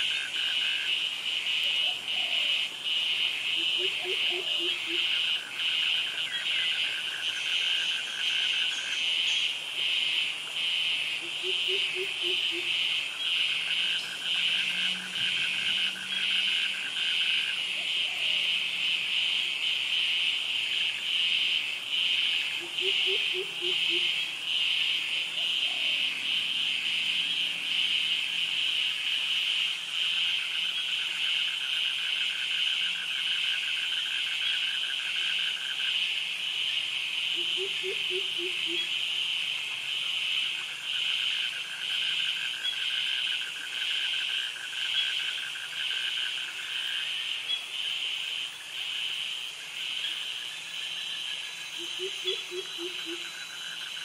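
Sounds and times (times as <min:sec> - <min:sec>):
cicadas and crickets chorus: 0:00.0 - 0:54.0.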